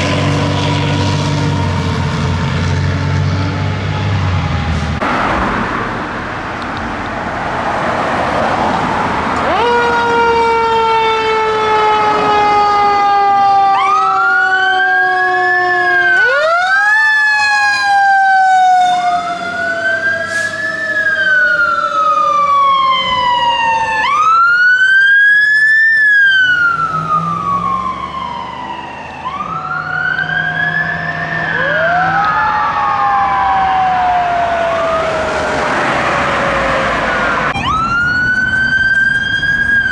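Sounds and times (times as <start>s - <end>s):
road and engine noise: 0.0s - 39.9s
siren sliding down in pitch: 0.0s - 39.9s
wailing siren: 0.0s - 39.9s.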